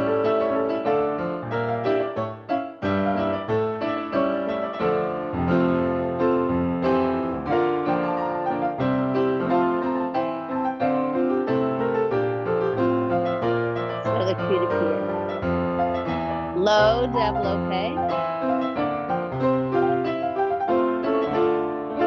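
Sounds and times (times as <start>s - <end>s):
piano playing chords and melody: 0.0s - 22.0s.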